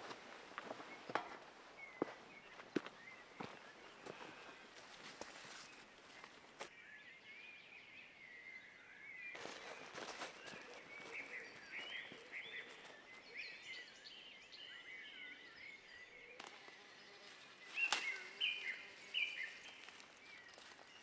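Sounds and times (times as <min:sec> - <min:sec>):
small birds singing: 0:00.0 - 0:21.0.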